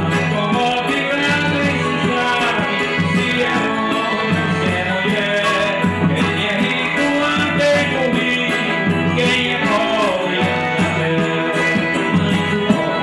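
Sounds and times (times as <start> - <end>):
live band dance music: 0.0 - 13.0
man singing into microphone: 0.0 - 13.0.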